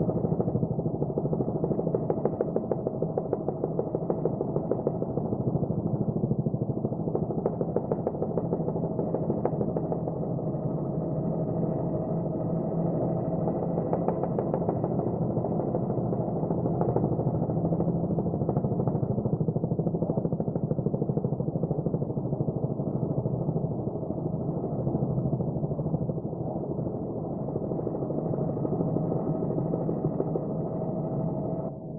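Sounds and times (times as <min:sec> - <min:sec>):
helicopter rotor pulsing: 0:00.0 - 0:31.9.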